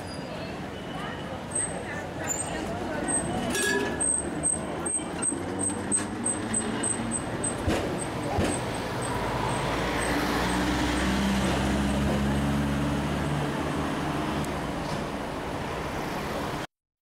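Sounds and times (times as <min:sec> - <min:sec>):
street traffic: 0:00.0 - 0:16.7.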